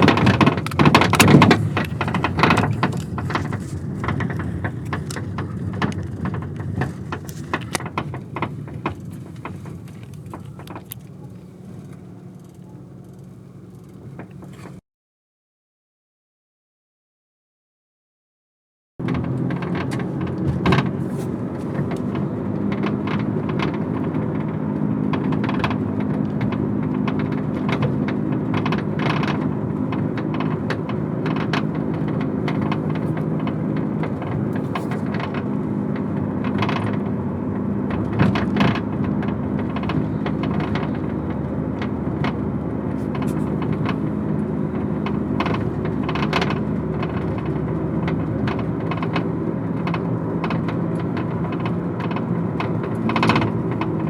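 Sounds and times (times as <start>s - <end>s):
car engine drone: 0.0s - 14.8s, 19.0s - 54.0s
rattling and clicking in car: 0.0s - 14.8s, 19.0s - 54.0s.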